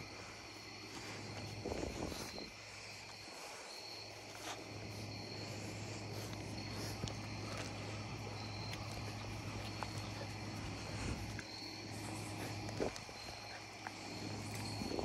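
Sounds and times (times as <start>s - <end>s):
crickets chirping: 0.0s - 15.0s
steady low hum: 0.0s - 15.0s.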